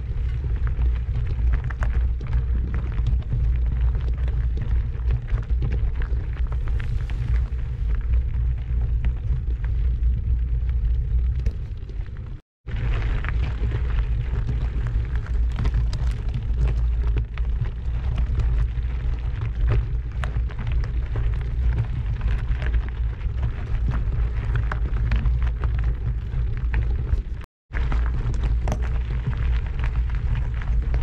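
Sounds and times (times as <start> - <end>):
small crackles and clicks: 0.0 - 31.0.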